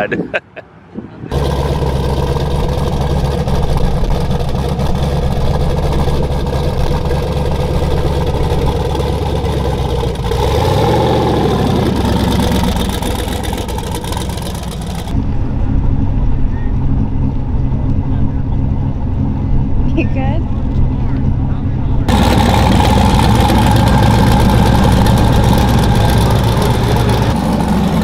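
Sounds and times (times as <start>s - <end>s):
car engine idling: 1.3s - 28.0s.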